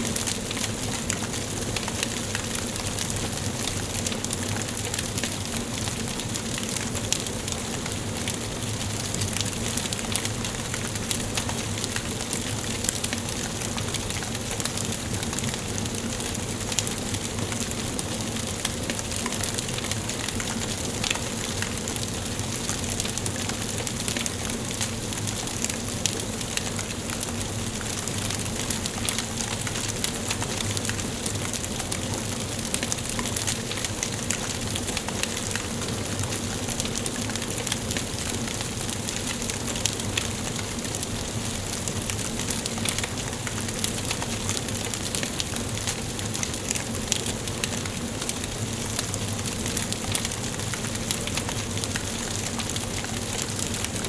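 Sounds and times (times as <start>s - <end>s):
fire crackles and pops: 0.0s - 54.0s
wood fire hissing: 0.0s - 54.0s.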